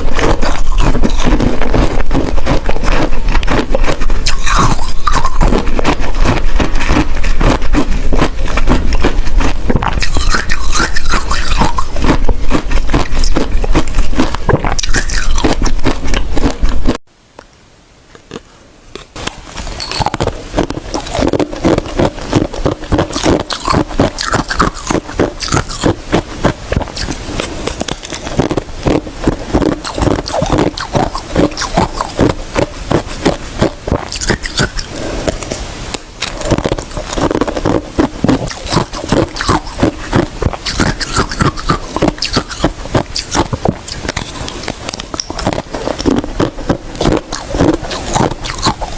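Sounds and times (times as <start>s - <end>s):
ice crunching being chewed: 0.0s - 17.0s, 18.2s - 48.9s.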